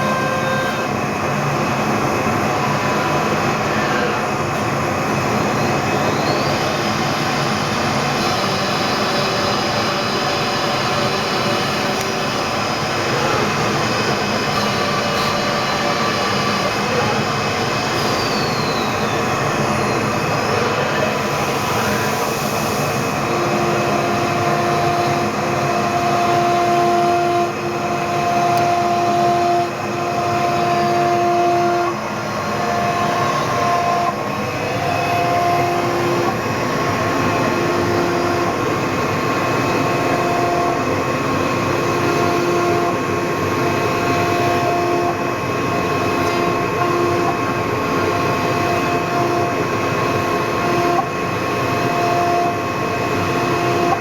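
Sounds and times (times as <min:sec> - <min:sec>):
machine whine: 0:00.0 - 0:54.0
router machining wood: 0:02.6 - 0:54.0.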